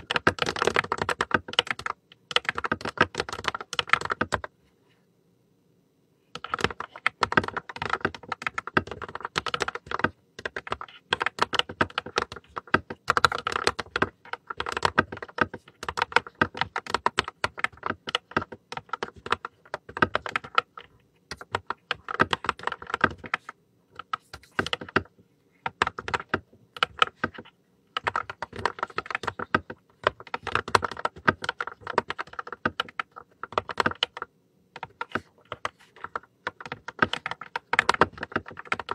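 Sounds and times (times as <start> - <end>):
mechanical keyboard typing: 0.0 - 4.5, 6.3 - 38.9.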